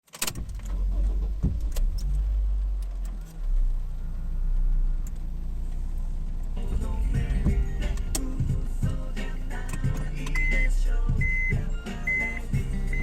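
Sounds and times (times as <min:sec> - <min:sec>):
road vehicle rumbling: 0:00.0 - 0:13.0.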